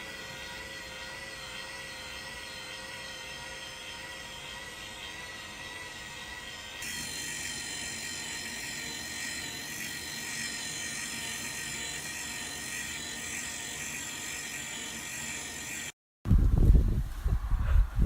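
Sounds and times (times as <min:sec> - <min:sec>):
small electric motor whirring: 0:00.0 - 0:16.0.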